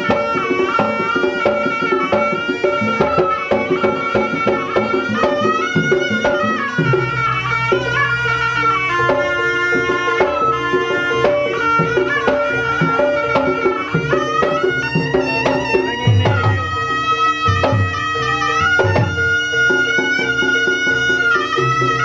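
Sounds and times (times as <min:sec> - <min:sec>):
folk percussion drum strokes: 0:00.0 - 0:22.0
sustained melody line: 0:00.0 - 0:22.0.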